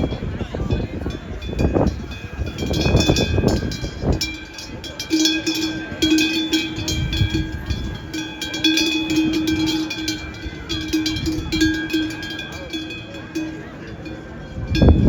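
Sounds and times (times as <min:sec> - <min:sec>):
cowbells clanging: 0:00.0 - 0:15.0.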